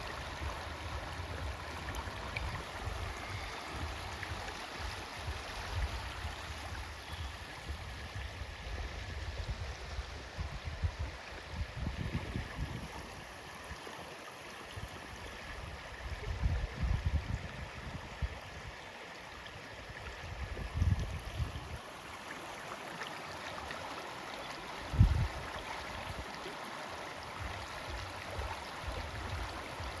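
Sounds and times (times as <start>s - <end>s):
stream flowing: 0.0s - 30.0s.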